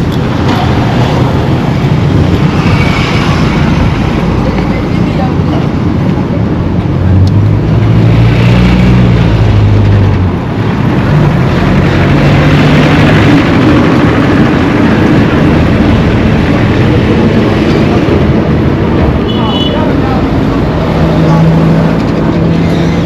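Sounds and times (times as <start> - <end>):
road noise: 0.0 - 23.0
vehicle engines running: 0.0 - 23.0.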